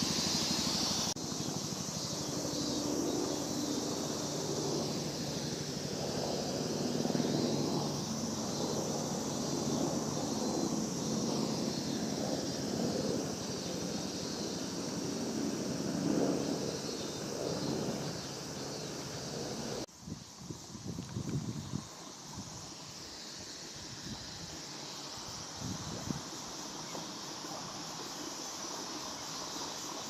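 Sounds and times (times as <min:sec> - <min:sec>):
constant high hiss: 0:00.0 - 0:30.0.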